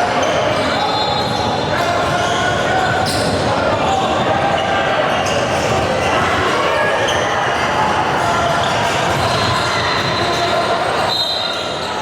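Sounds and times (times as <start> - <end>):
crowd noise and voices: 0.0 - 12.0.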